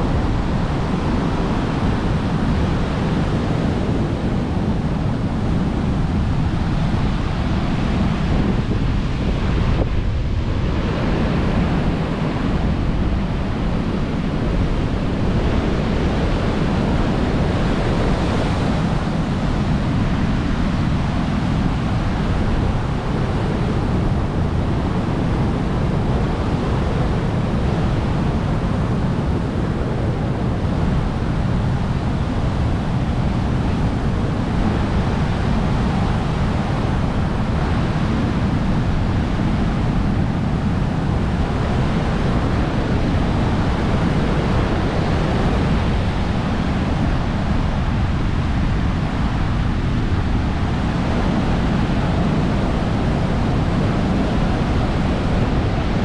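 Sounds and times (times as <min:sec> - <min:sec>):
wind rumbling on microphone: 0:00.0 - 0:56.0.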